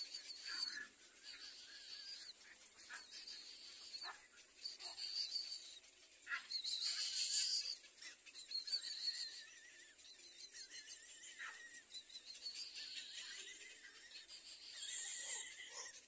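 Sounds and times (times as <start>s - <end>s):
bird chicks chirping: 0.0s - 16.0s.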